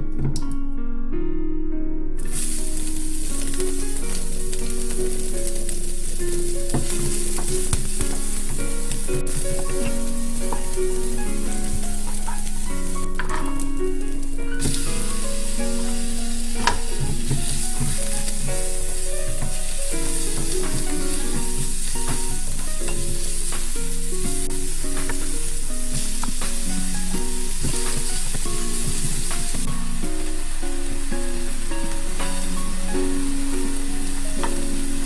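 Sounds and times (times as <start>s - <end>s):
soft background music: 0.0s - 35.0s
food sizzling in a frying pan: 2.2s - 35.0s.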